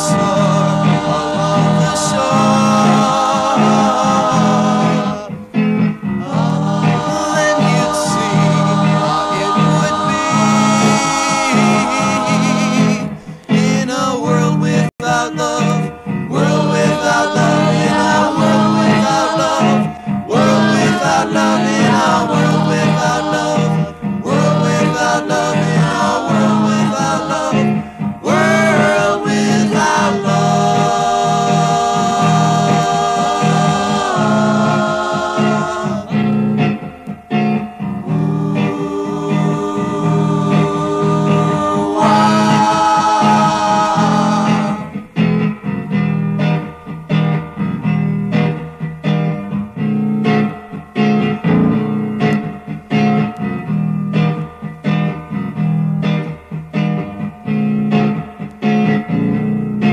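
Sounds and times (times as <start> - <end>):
rock song with singing: 0.0 - 50.5.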